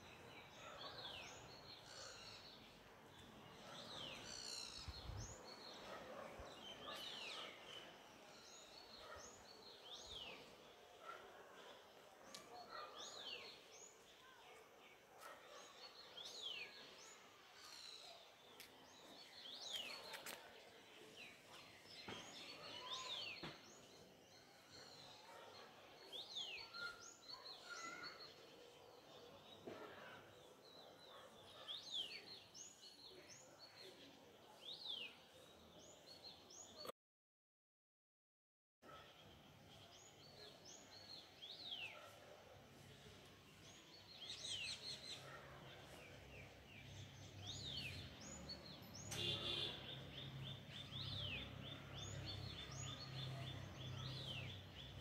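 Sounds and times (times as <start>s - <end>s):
faint outdoor background noise: 0.0s - 36.9s, 38.8s - 55.0s.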